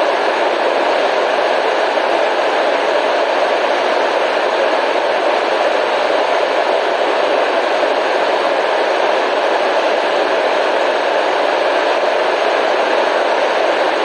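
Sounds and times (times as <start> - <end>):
steady white noise hiss: 0.0 - 14.0.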